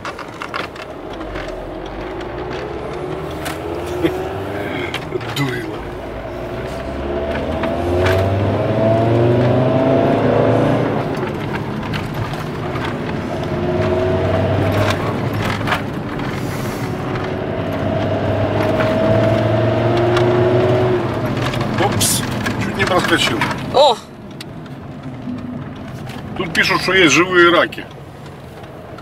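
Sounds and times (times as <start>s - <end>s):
small clicks and knocks: 0.0s - 9.8s, 10.8s - 29.0s
car engine accelerating: 0.0s - 29.0s
road rumble: 0.0s - 29.0s.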